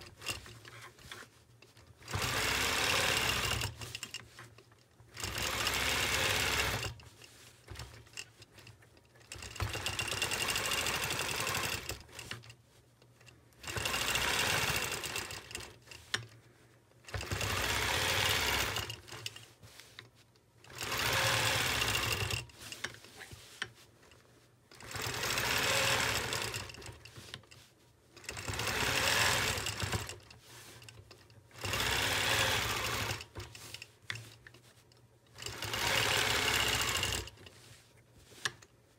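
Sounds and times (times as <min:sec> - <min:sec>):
quilting machine stitching: 0:00.0 - 0:12.6, 0:13.2 - 0:16.4, 0:17.0 - 0:19.8, 0:20.6 - 0:23.8, 0:24.7 - 0:34.6, 0:35.3 - 0:38.7.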